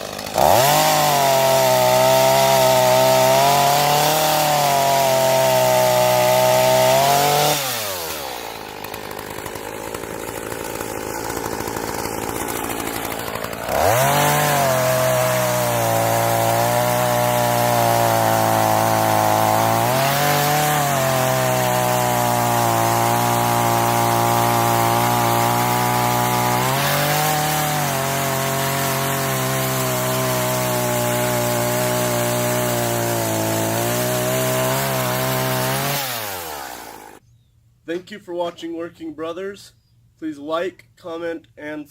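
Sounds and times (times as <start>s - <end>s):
chainsaw engine running: 0.0s - 37.2s.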